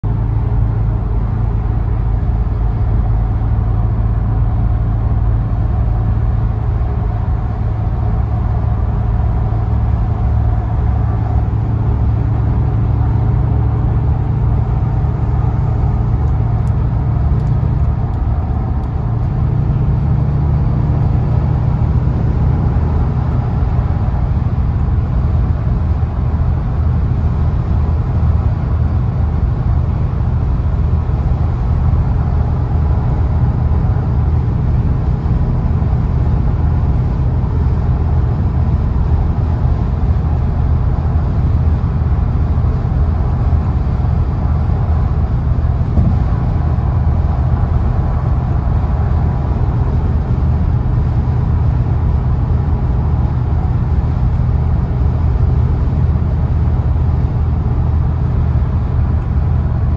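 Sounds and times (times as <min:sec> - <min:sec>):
car engine at high revs: 0:00.0 - 0:59.9
tyre and road noise: 0:00.0 - 0:59.9.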